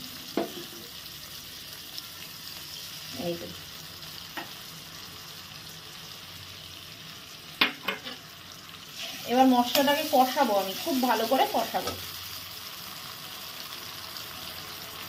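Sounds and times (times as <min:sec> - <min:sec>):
paste sizzling in oil: 0:00.0 - 0:15.0.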